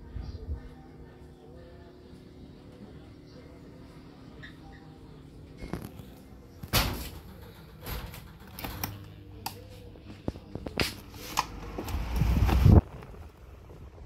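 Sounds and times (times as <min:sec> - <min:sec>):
fan airflow buffeting microphone: 0:00.0 - 0:14.0
fan motor hum: 0:00.0 - 0:14.0.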